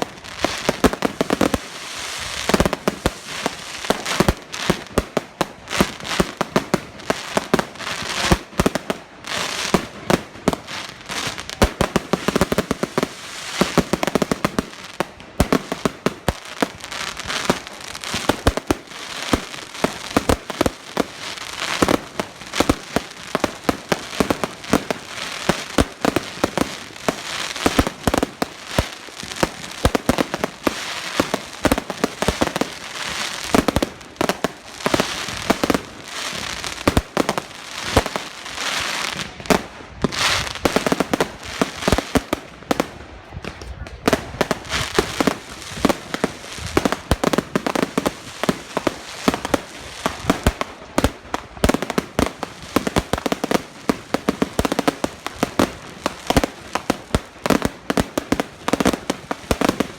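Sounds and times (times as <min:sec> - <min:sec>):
fireworks bangs and pops: 0:00.0 - 0:59.9
fireworks crackling: 0:00.0 - 0:59.9.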